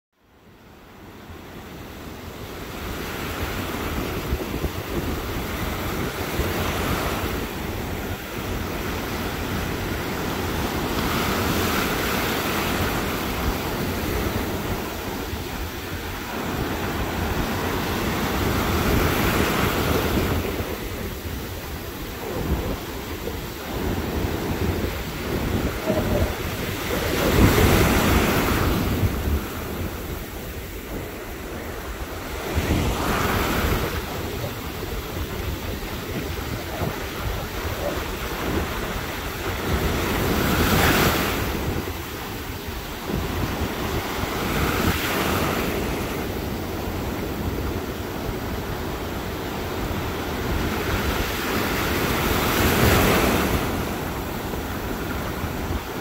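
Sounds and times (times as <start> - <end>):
ocean waves crashing: 0.5 - 56.0
wind buffeting microphone: 0.9 - 56.0.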